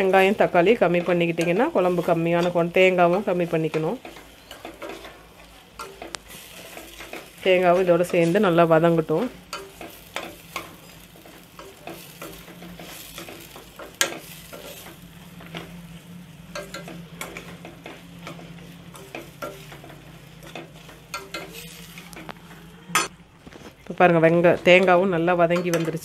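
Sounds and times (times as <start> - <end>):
spoon scraping in a pan: 0.0 - 23.9
food sizzling: 0.0 - 26.0.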